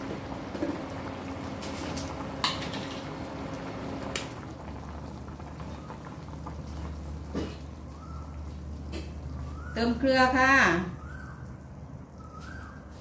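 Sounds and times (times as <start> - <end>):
soup boiling and bubbling: 0.0 - 13.0.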